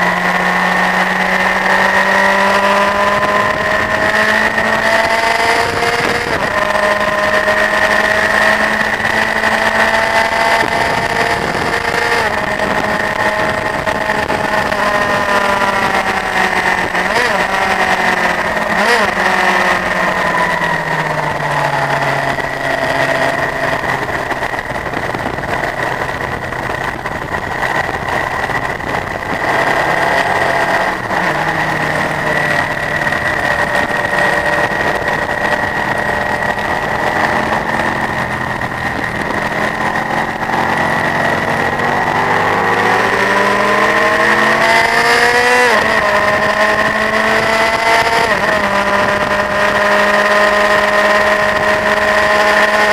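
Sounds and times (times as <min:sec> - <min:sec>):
motorcycle engine at speed: 0:00.0 - 0:52.9
steady high whine: 0:00.0 - 0:52.9.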